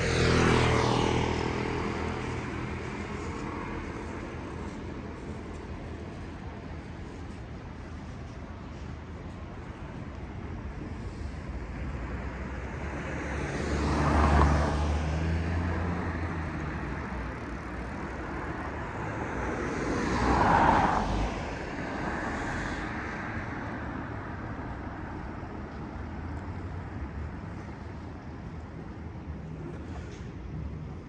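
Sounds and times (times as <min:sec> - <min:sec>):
cars passing by: 0:00.0 - 0:31.0
traffic hum: 0:00.0 - 0:31.0.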